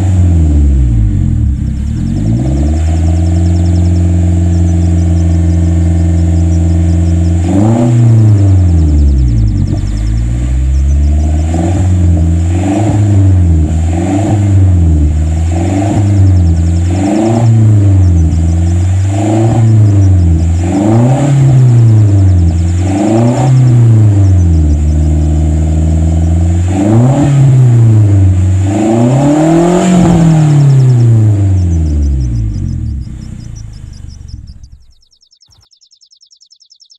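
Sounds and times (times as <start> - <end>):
vehicle engine revving: 0.0 - 35.0.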